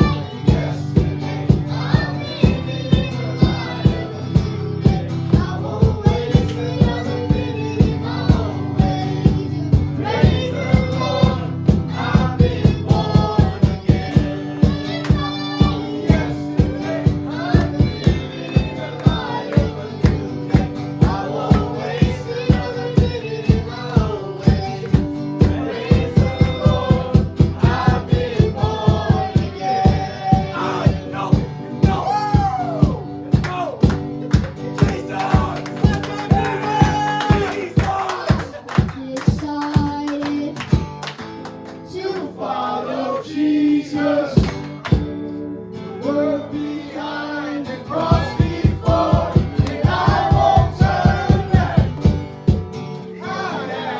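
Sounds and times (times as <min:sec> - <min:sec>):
voices singing: 0:00.0 - 0:40.9, 0:41.7 - 0:44.8, 0:45.8 - 0:52.4, 0:53.0 - 0:53.9
worship band music: 0:00.0 - 0:45.2, 0:46.0 - 0:53.9.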